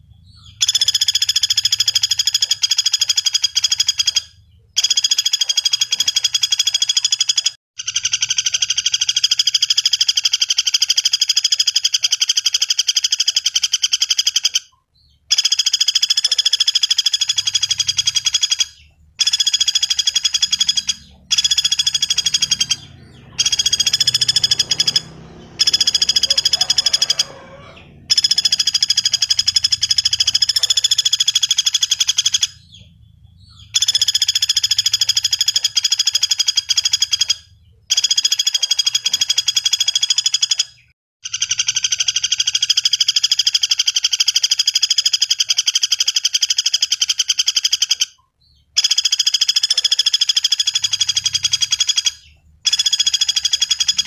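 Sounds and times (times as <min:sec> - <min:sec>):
woodpecker rattling trills: 0:00.0 - 0:54.0.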